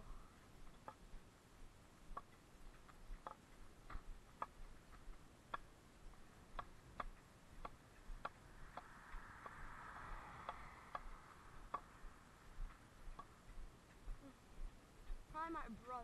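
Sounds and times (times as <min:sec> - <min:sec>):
faint irregular ticks: 0:00.0 - 0:16.0.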